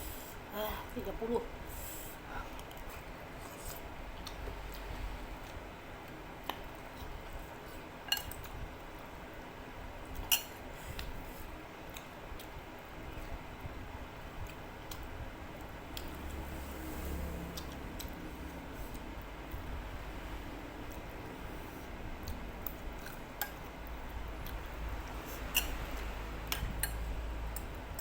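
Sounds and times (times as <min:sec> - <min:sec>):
electric fan humming: 0:00.0 - 0:28.0.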